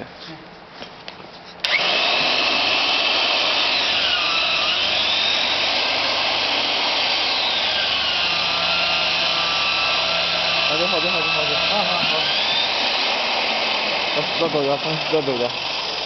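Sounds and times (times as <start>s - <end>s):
electric motor running loudly: 1.6s - 16.0s.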